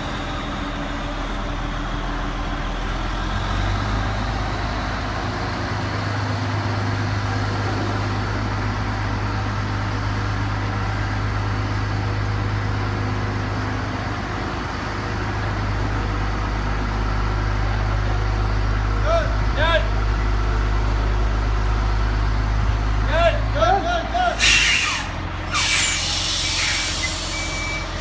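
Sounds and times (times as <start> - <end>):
heavy vehicle engine humming: 0.0 - 28.0.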